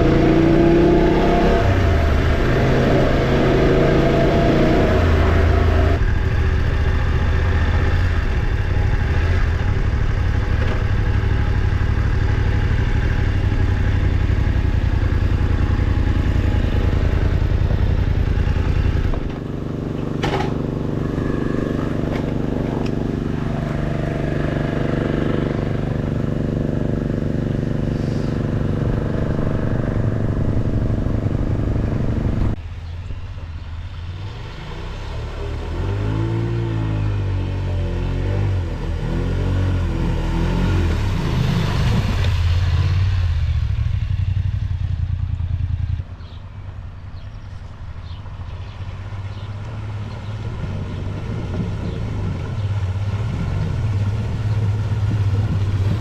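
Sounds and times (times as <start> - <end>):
motorcycle engine running: 0.0 - 34.1, 38.5 - 56.0.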